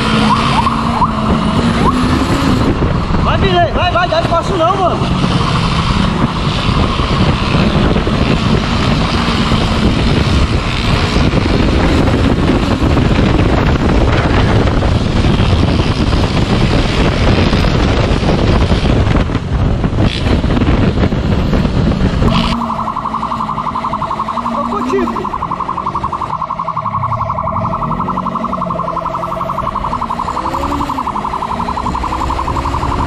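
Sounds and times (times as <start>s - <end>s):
vehicle engine rumble: 0.0s - 33.0s
wind rushing over microphone: 0.0s - 33.0s.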